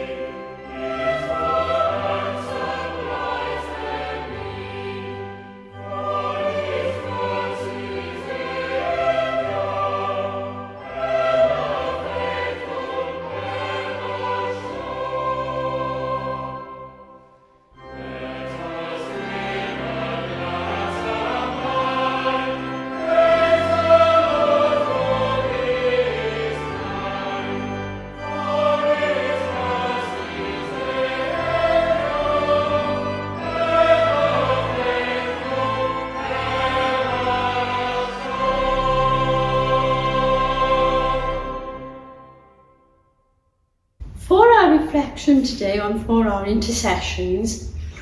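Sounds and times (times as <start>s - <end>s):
choir singing a hymn: 0.0s - 42.8s
instrumental accompaniment: 0.0s - 43.2s.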